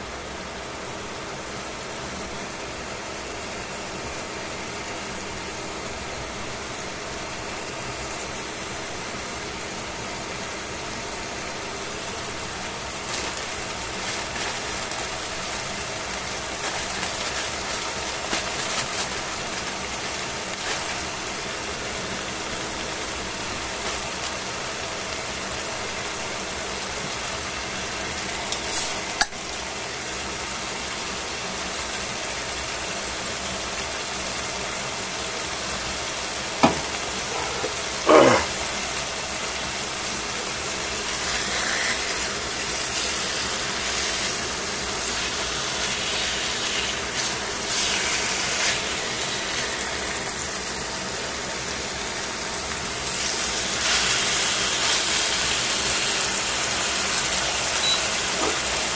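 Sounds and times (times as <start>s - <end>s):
meat sizzling in oil: 0.1s - 58.9s.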